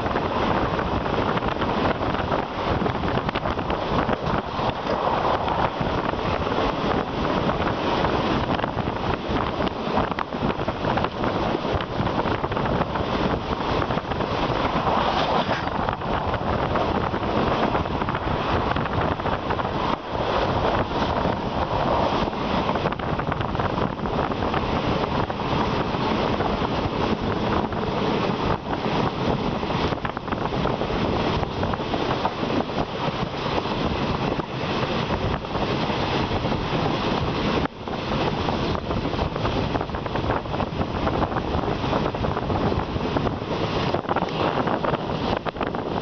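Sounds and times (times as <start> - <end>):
train running on track: 0.0 - 46.0
wind rushing on microphone: 0.0 - 46.0.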